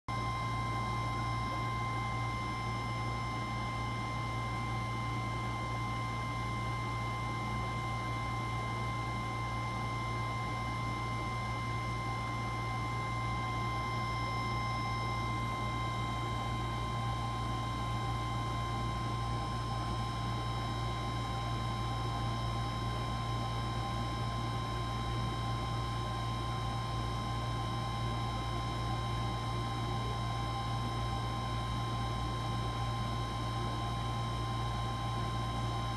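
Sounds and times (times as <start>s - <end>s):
low electrical hum: 0.1s - 35.9s.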